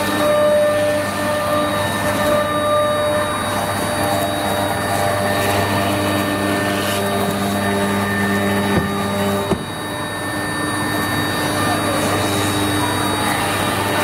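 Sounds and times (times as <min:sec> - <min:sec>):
router spindle milling foam: 0:00.0 - 0:14.0.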